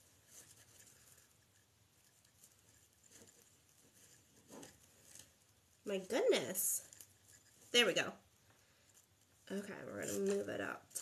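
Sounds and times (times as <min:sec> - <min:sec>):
faint rustles of mesh: 0:00.0 - 0:11.0.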